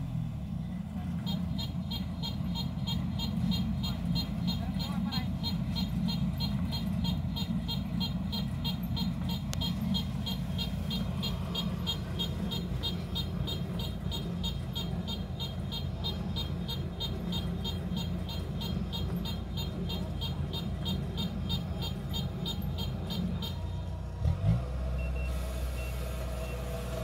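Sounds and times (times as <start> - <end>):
diesel engine running: 0.0 - 27.0
rapid high beeping: 1.3 - 23.7.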